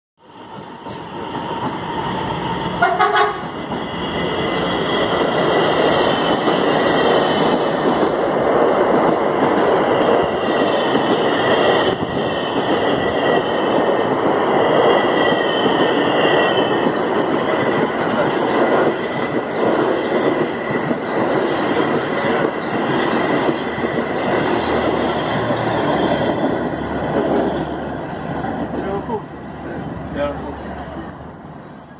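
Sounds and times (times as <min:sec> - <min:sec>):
train wheels rushing on rails: 0:00.2 - 0:31.9.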